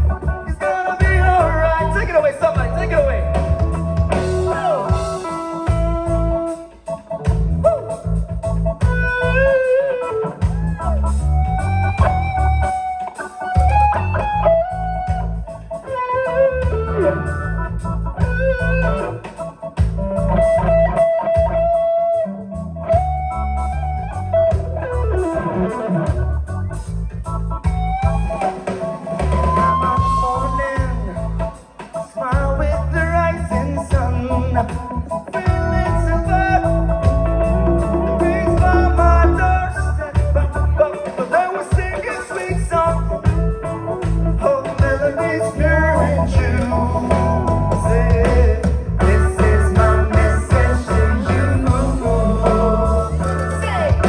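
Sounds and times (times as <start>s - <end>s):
bass guitar: 0.0s - 54.0s
drums: 0.0s - 54.0s
electric guitar solo: 0.0s - 54.0s.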